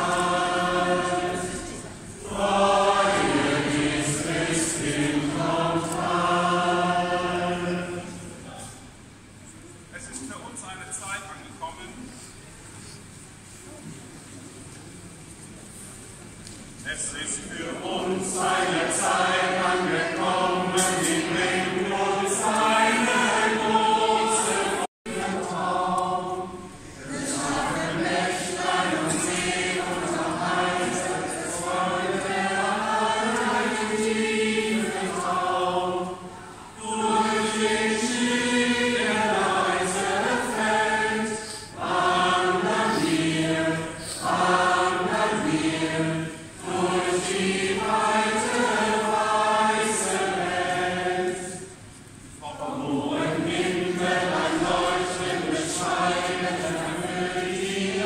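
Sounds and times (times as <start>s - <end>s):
mixed choir singing a carol: 0.0s - 9.1s, 16.8s - 58.0s.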